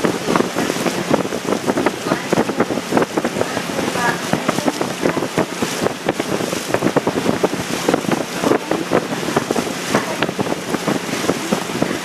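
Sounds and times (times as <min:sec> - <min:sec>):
water rushing along boat hull: 0:00.0 - 0:12.0
wind buffeting microphone: 0:00.0 - 0:12.0.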